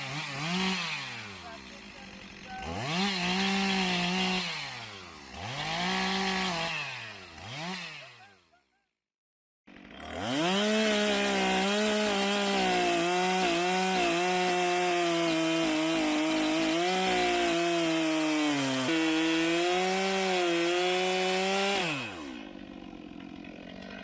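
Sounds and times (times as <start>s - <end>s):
chainsaw cutting into tree: 0.0s - 8.5s, 9.7s - 24.0s.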